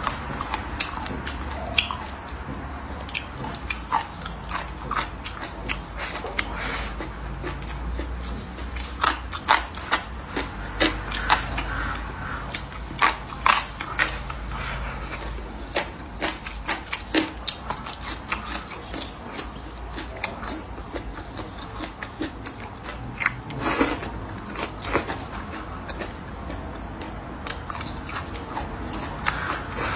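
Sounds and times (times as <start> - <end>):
person chewing and smacking: 0.0 - 29.9.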